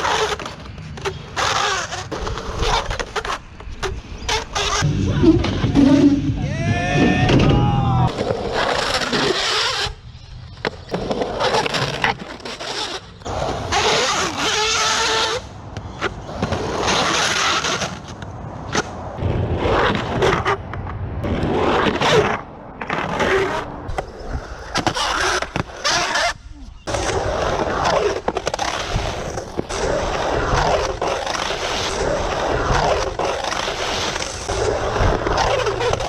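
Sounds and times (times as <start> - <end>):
skateboard wheels sliding on concrete: 0.0 - 36.0
squealing skateboard wheels: 0.0 - 36.0.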